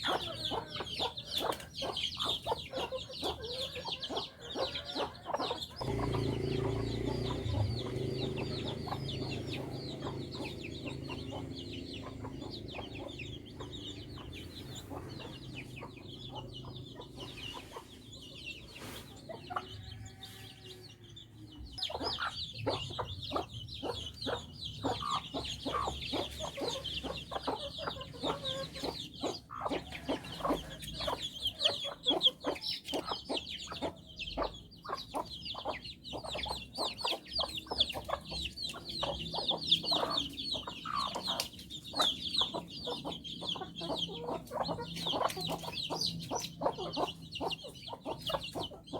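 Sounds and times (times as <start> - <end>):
birds chirping: 0.0 - 48.9
chickens clucking: 0.0 - 48.9.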